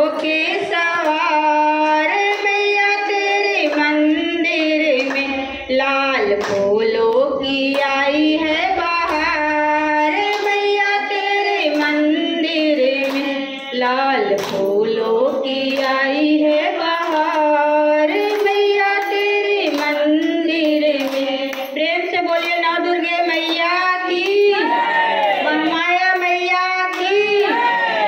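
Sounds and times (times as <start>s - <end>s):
hand claps: 0.0s - 5.6s, 6.2s - 28.0s
woman singing into a microphone: 0.0s - 24.8s, 25.4s - 27.9s.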